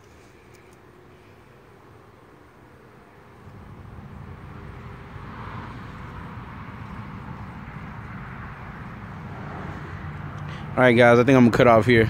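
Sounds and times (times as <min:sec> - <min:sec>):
distant engine rumble: 0:00.0 - 0:12.0.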